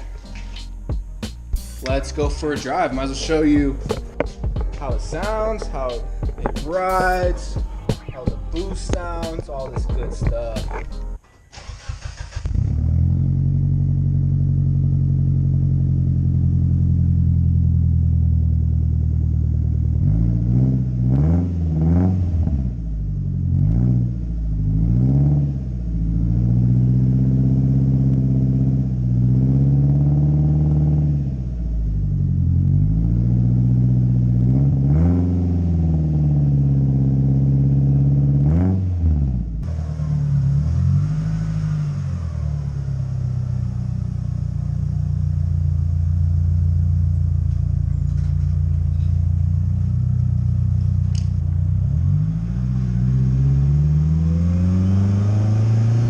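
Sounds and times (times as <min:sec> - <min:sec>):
turbocharged car engine accelerating: 0:00.0 - 0:56.0.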